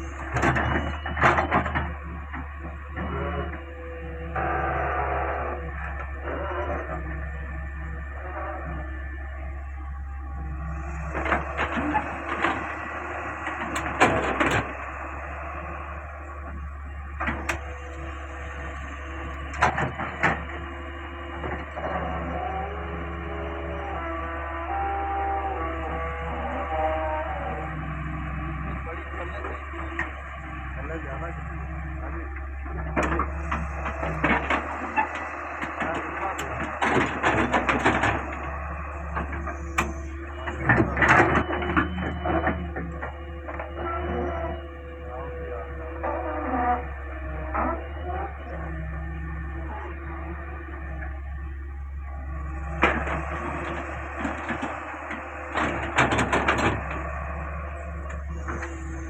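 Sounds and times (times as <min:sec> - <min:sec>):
excavator engine drone: 0:00.0 - 0:59.0.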